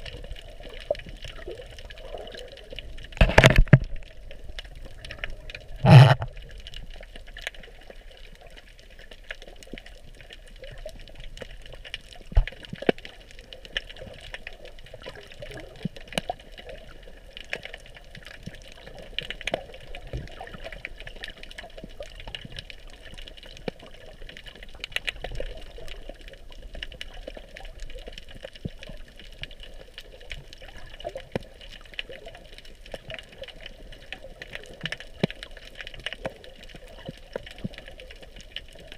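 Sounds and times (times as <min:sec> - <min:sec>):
faint clicks and crackles: 0:00.0 - 0:38.9.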